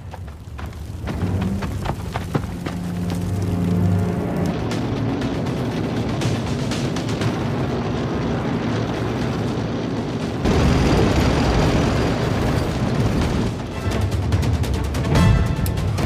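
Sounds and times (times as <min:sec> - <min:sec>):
faint film score: 0:00.0 - 0:16.0
low rumble: 0:00.0 - 0:16.0.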